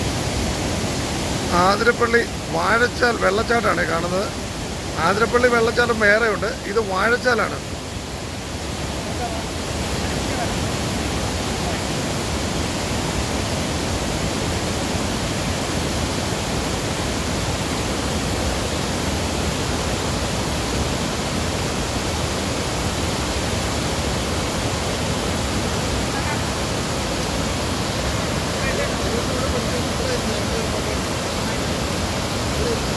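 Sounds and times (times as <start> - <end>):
river rushing over rocks: 0.0 - 32.9.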